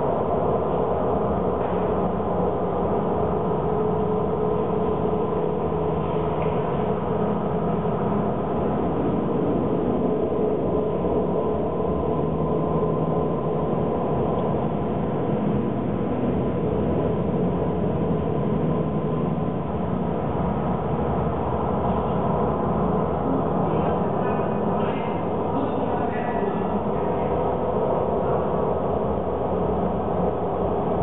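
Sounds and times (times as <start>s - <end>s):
dense drone with low rumble: 0.0s - 31.0s.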